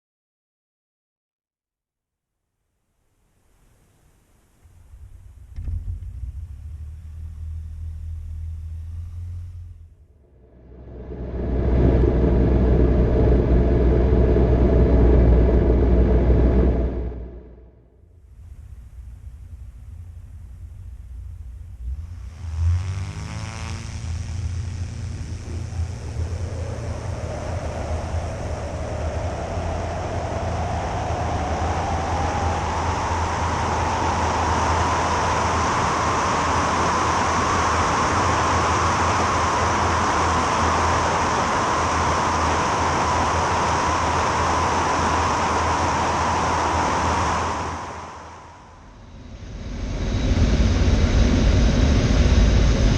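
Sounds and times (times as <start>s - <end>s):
light aircraft engine and propeller: 4.6s - 17.6s, 18.3s - 52.9s.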